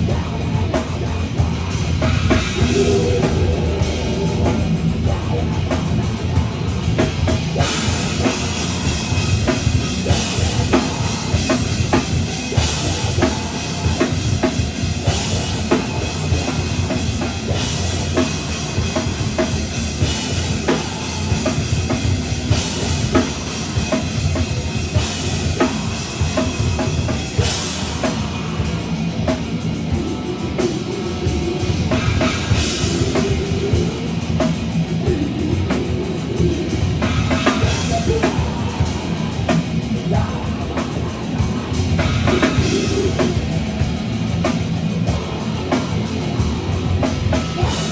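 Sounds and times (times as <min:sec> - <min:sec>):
metal band playing: 0:00.0 - 0:47.9.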